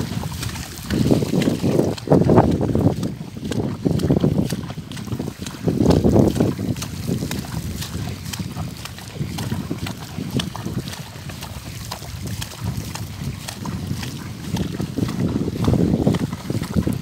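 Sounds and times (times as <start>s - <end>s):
hooves splashing in water: 0.0s - 17.0s
wind on microphone: 0.0s - 17.0s.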